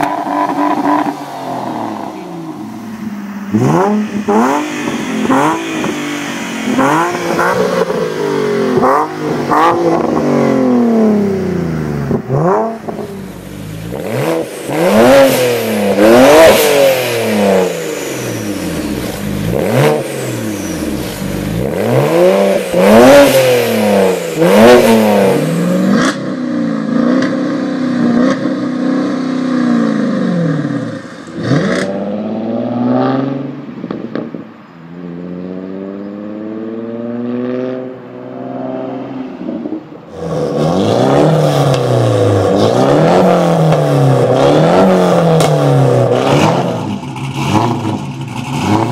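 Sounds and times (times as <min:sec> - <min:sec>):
car accelerating away: 0:00.0 - 0:48.9
car engines revving: 0:00.0 - 0:48.9.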